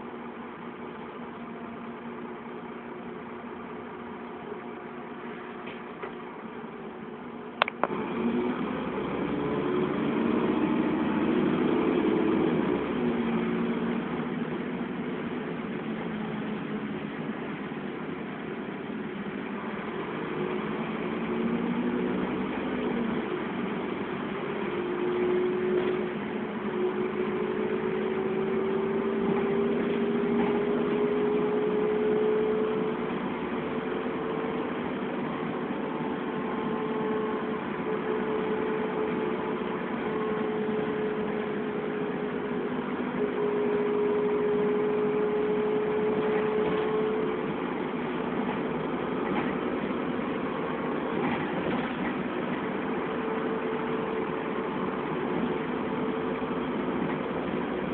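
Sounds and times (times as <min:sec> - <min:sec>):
bus engine and road rumble: 0:00.0 - 0:57.9
bus whine: 0:00.0 - 0:57.9.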